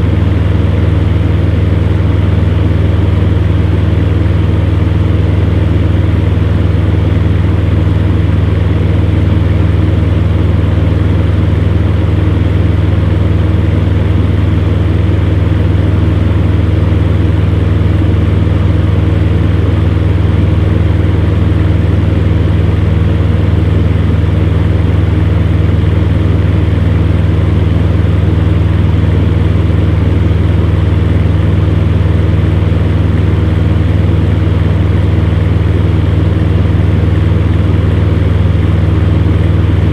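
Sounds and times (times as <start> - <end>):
fan heater motor hum: 0.0 - 39.9.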